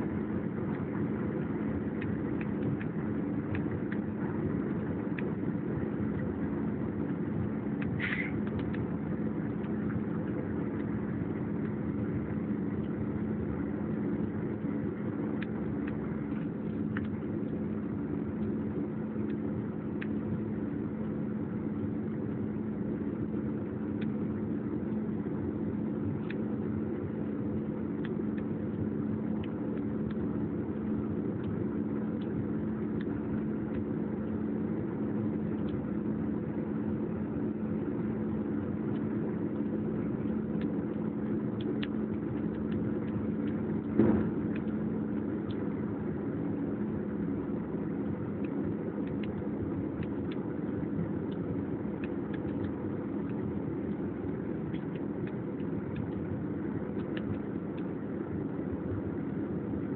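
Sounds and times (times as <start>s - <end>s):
constant low hum: 0.0s - 59.9s
jet engines droning: 0.0s - 59.9s.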